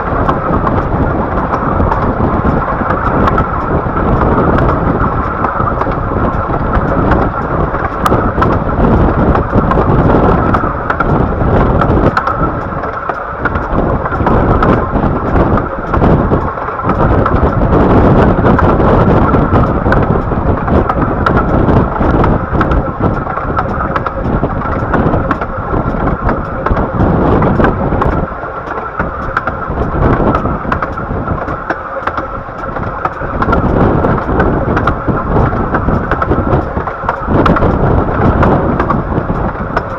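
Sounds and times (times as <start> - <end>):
train wheels rumbling on rail: 0.0 - 39.9
wind noise on microphone: 0.0 - 39.9.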